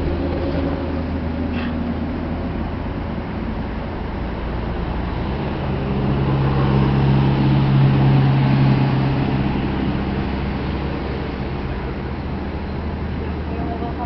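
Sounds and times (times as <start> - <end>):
low rumble: 0.0 - 14.0
vehicle engine hum: 0.0 - 14.0.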